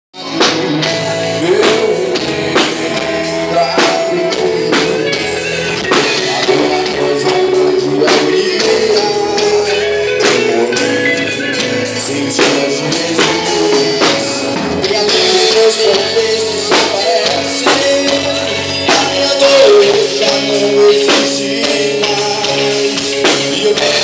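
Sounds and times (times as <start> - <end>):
band playing gospel music: 0.2 - 24.0.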